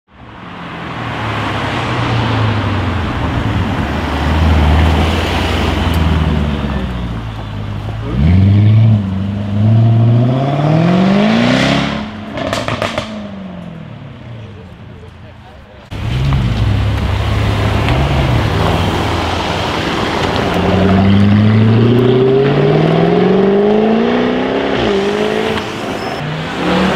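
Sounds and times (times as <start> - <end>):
car engine rumbling and accelerating: 0.1 - 26.9.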